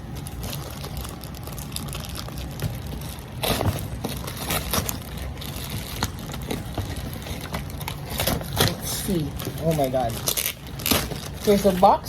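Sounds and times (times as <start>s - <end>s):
package being torn open: 0.0s - 11.9s.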